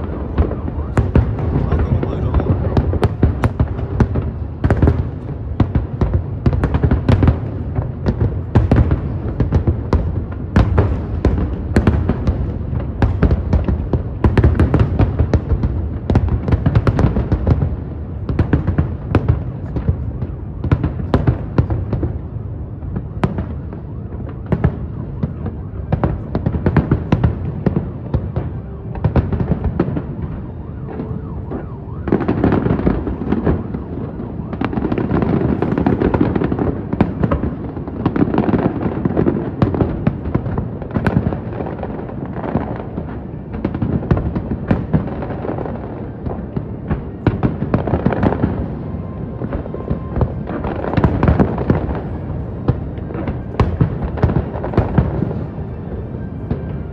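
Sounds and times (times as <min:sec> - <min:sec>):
fireworks bangs and crackling: 0:00.0 - 0:56.9.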